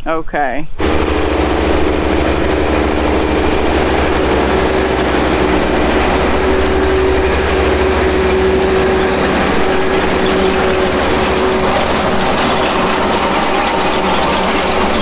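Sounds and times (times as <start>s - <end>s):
conveyor hum: 0.0s - 15.0s
harvester engine drone: 0.7s - 15.0s.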